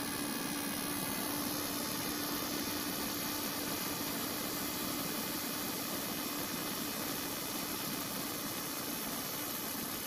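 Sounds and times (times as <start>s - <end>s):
small motor humming: 0.0s - 10.0s.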